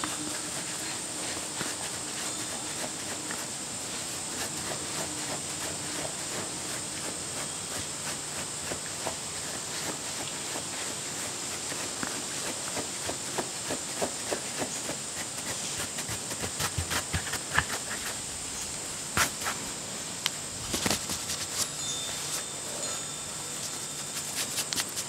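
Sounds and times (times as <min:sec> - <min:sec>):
brush stroking dog's coat: 0:00.0 - 0:18.2, 0:20.8 - 0:25.0
steady hiss: 0:00.0 - 0:25.0.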